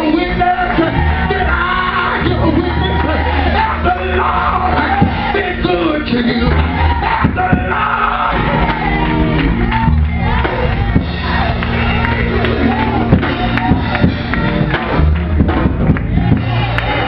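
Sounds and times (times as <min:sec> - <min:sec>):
gospel instrumental backing: 0:00.0 - 0:17.0.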